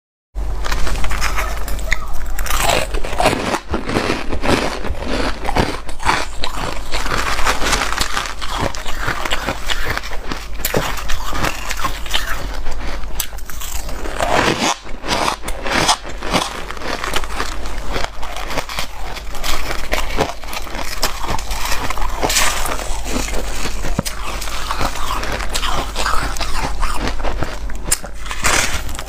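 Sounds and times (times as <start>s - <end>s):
crunching of ice being chewed: 0.5s - 29.0s
fingers raking through ice: 0.6s - 29.0s.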